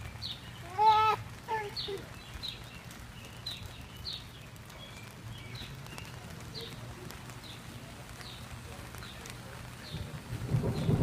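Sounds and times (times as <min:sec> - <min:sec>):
rain hissing: 0:00.0 - 0:11.0
songbird chirping: 0:00.0 - 0:11.0.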